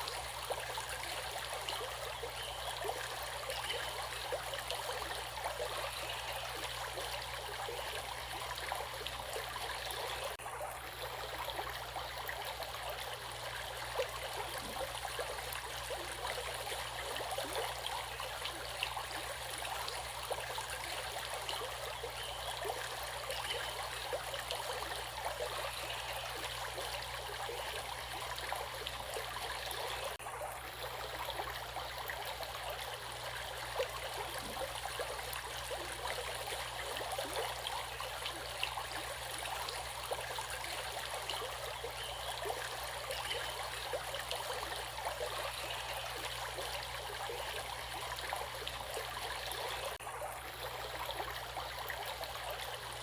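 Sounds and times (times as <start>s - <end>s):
stream of water flowing: 0.0s - 53.0s.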